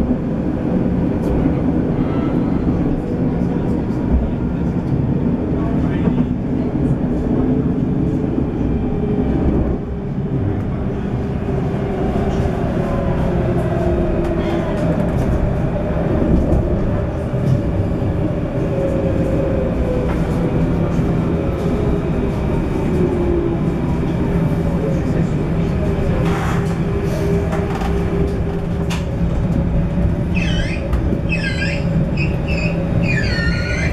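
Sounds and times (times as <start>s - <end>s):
tram wheels rumbling on rails: 0.0s - 33.9s.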